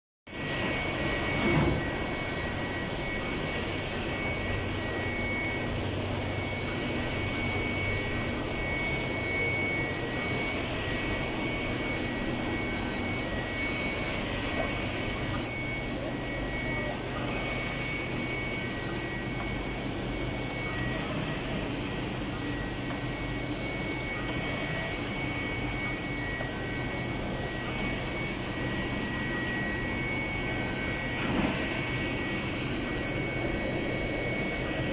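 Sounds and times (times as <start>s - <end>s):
high machine whine: 0.3s - 34.9s
printing machinery humming: 0.3s - 34.9s.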